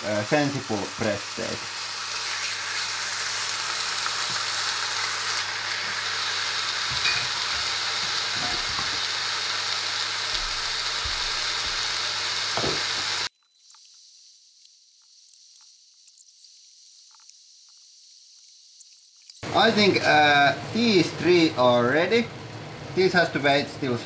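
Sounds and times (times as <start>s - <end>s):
meat sizzling in frying pan: 0.0s - 13.3s, 14.6s - 24.0s
faint sizzle with crackles: 0.0s - 24.0s.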